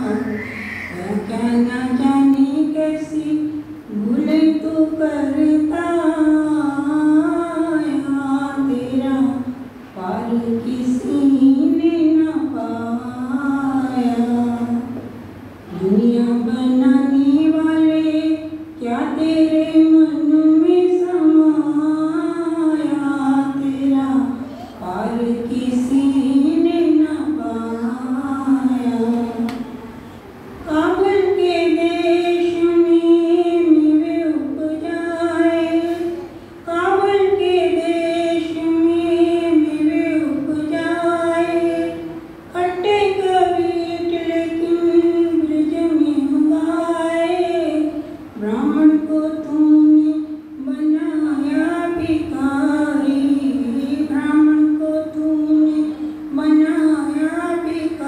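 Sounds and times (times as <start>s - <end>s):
woman singing into a microphone: 0.0s - 29.8s, 30.6s - 58.0s.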